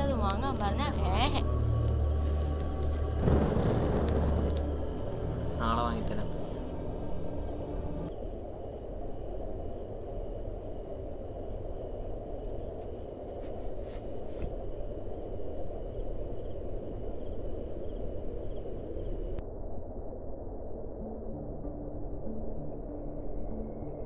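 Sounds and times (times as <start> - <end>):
crickets trilling: 0.0 - 19.4
low background hiss: 0.0 - 19.4.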